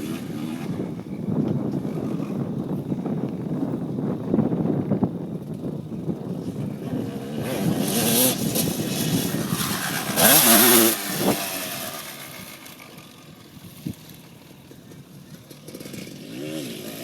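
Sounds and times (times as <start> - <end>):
dirt bike engine revving: 0.0 - 2.9, 6.2 - 17.0.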